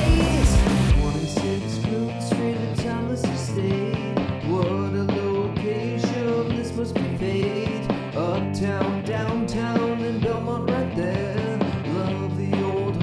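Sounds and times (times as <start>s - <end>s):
man singing: 0.0s - 13.0s
rock and roll song: 0.0s - 13.0s.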